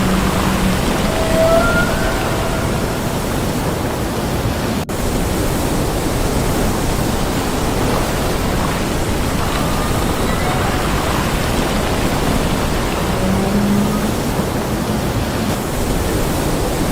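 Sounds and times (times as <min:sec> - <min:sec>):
rushing water: 0:00.0 - 0:16.9.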